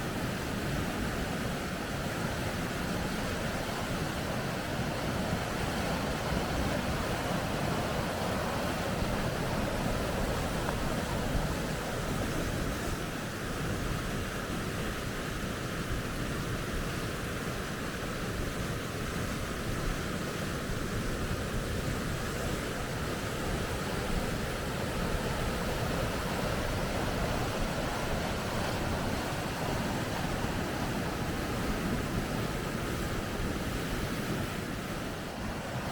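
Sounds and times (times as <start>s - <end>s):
water rushing through rapids: 0.0s - 35.9s.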